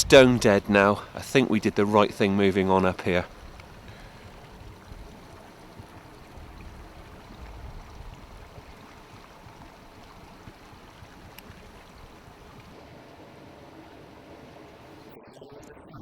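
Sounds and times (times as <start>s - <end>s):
low uneven rumble: 0.0s - 15.2s.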